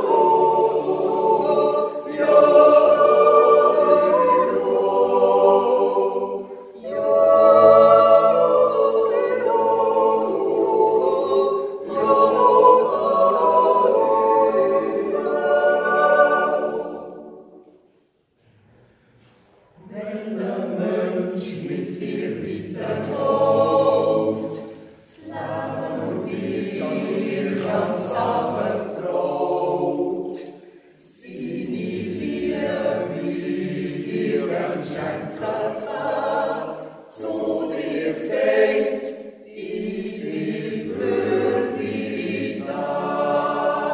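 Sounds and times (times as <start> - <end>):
mixed choir yodel singing: 0.0 - 17.8, 19.7 - 43.9.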